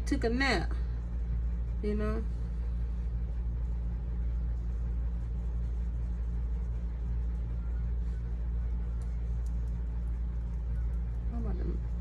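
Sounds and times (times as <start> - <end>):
steady low hum and rumble: 0.0 - 12.0.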